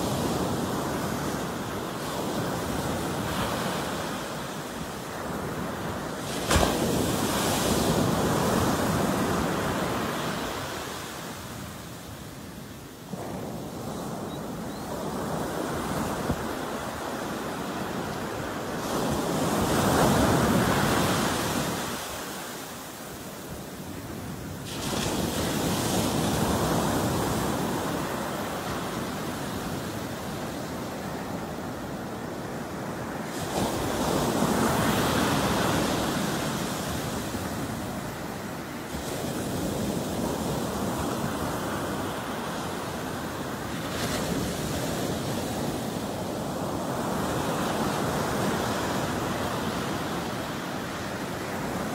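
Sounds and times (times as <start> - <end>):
ocean surf breaking on sand: 0.0 - 51.9.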